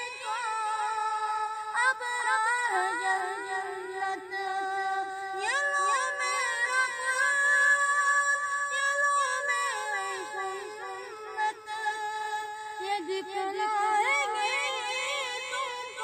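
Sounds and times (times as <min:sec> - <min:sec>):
boy singing: 0:00.0 - 0:16.0.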